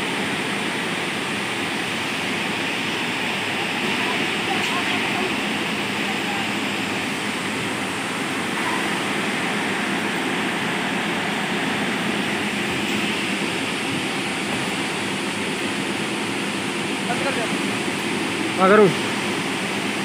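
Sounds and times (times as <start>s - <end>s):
crane diesel engine running: 0.0s - 20.0s.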